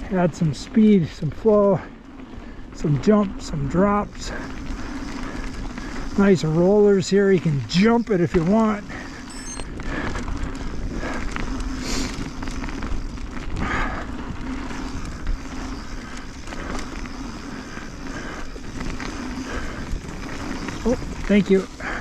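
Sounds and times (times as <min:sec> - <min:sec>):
bike rattles and clicks: 0:00.0 - 0:22.0
bike tyres rumbling on dirt: 0:00.0 - 0:22.0.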